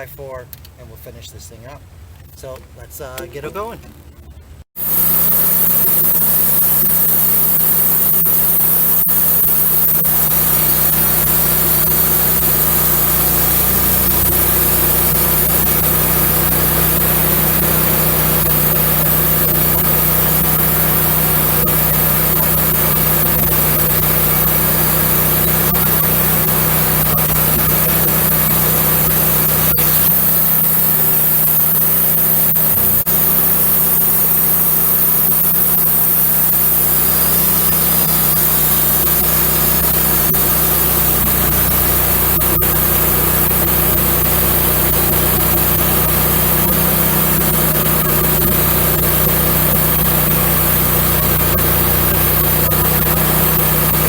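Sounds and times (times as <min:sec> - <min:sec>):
bandsaw mill engine running: 0:04.8 - 0:54.0
saw blade hissing through log: 0:04.8 - 0:54.0.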